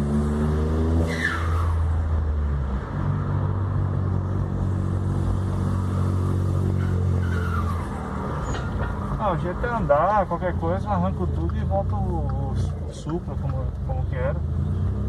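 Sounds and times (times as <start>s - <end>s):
loud car engine: 0.0s - 15.0s.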